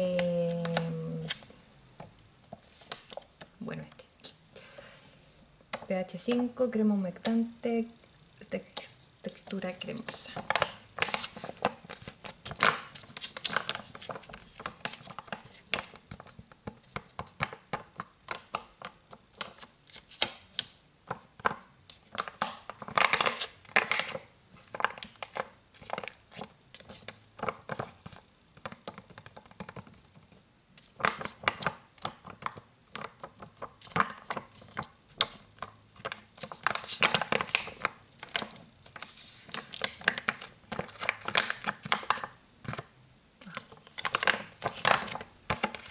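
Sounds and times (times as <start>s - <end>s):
fingers crinkling plastic pouch: 0.0s - 1.5s, 8.6s - 45.9s.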